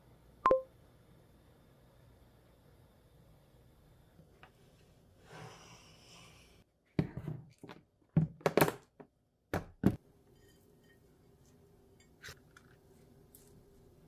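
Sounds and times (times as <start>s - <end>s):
kitchen items set on countertop: 2.0s - 14.0s.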